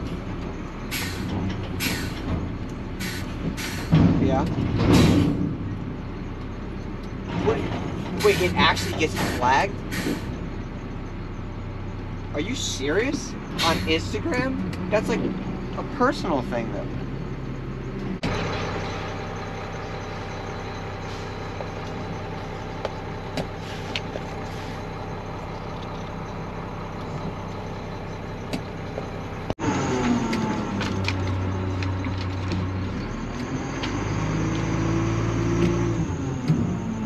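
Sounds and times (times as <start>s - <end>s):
truck engine idling: 0.0s - 37.0s
truck engine pulling forward: 0.0s - 37.0s.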